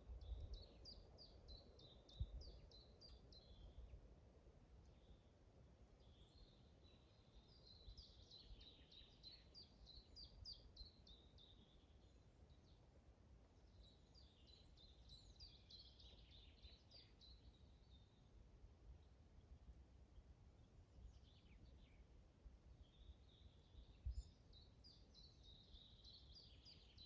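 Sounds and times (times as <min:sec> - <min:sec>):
songbird chirping: 0:00.0 - 0:04.1, 0:04.8 - 0:18.3, 0:19.0 - 0:27.0.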